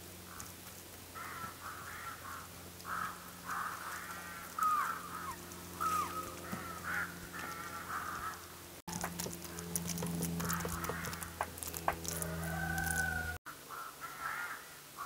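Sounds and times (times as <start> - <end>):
birds calling: 0.2 - 15.0.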